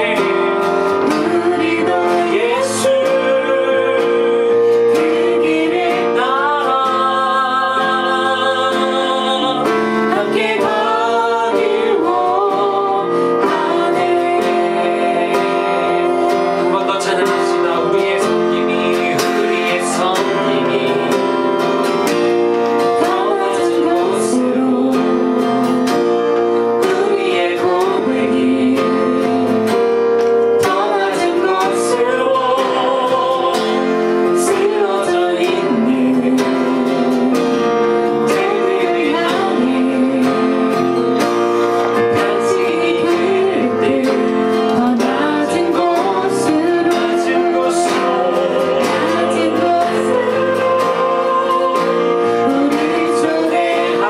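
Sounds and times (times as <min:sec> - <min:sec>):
man and woman singing: 0:00.0 - 0:54.0
strummed acoustic guitar: 0:00.0 - 0:54.0.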